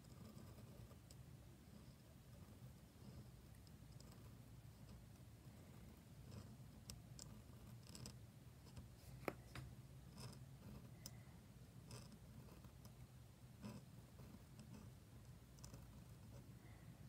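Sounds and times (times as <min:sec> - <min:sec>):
pen nib scratching paper: 0:00.0 - 0:09.2, 0:10.1 - 0:11.2, 0:11.8 - 0:13.0, 0:13.6 - 0:16.5.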